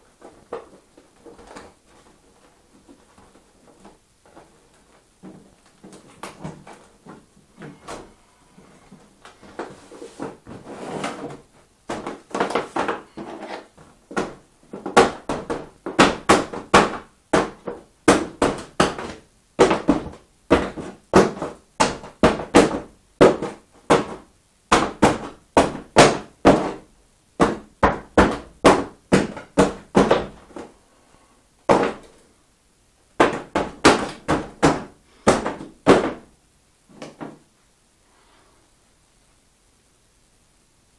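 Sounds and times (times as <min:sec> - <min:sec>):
hands thumping and scuffing tape: 0:00.1 - 0:08.1, 0:09.2 - 0:30.7, 0:31.7 - 0:32.2, 0:33.2 - 0:36.3.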